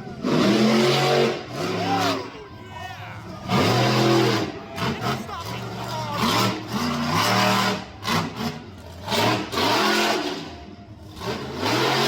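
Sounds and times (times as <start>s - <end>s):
truck engine revving hard: 0.0s - 2.6s, 3.2s - 12.0s.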